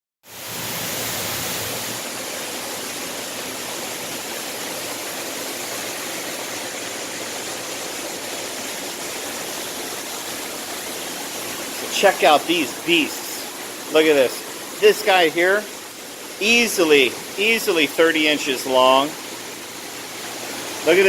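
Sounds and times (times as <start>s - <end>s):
running water rushing: 0.3s - 21.0s.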